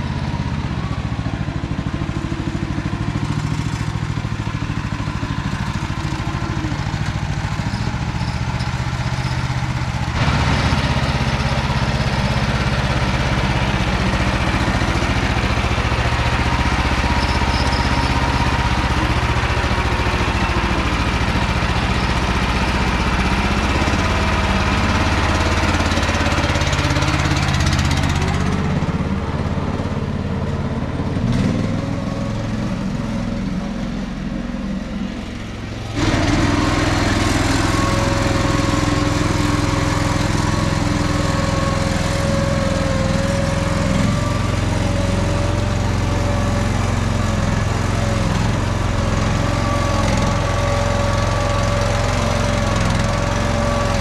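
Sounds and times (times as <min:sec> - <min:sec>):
walking tractor engine running: 0:00.0 - 0:54.0.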